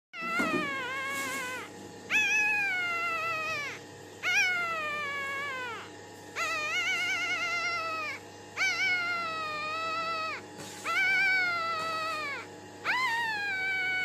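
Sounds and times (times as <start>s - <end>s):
puppy crying: 0.1s - 14.0s.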